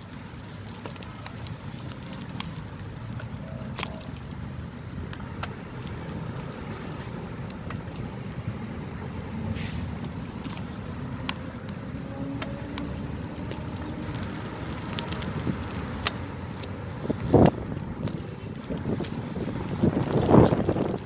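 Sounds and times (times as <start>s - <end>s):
bike tyres rolling over dirt: 0.0s - 21.0s
wind rumbling on microphone: 0.8s - 21.0s.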